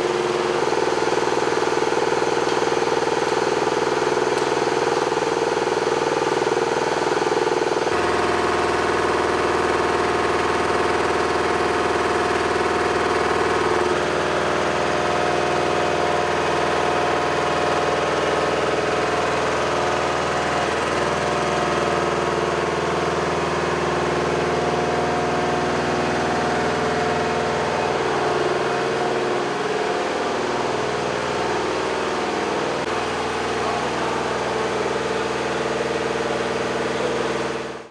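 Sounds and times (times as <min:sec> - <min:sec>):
lift truck engine idling: 0:00.0 - 0:37.9.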